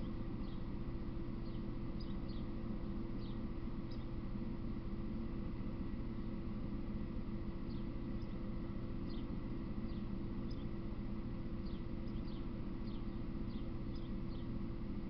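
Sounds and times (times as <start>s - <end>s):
small birds chirping: 0.0s - 4.8s, 6.9s - 15.0s
steady low hum: 0.0s - 15.0s.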